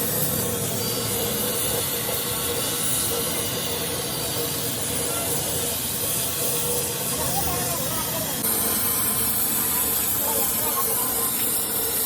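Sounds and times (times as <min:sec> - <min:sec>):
loud steady hiss: 0:00.0 - 0:12.0.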